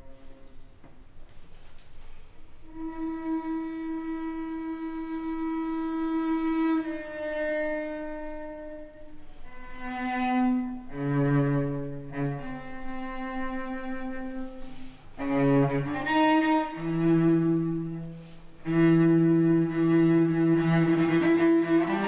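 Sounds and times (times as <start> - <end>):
bowed cello notes: 0.0 - 0.8, 2.6 - 22.0.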